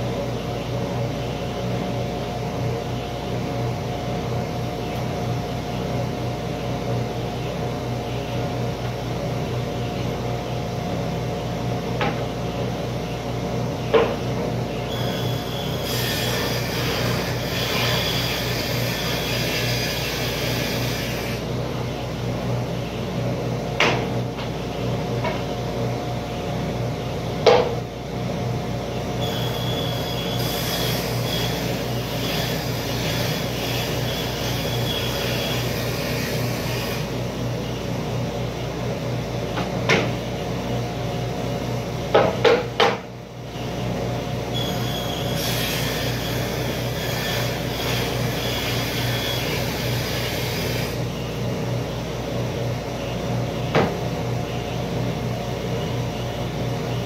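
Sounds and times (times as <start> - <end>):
workshop machinery humming: 0.0 - 57.0.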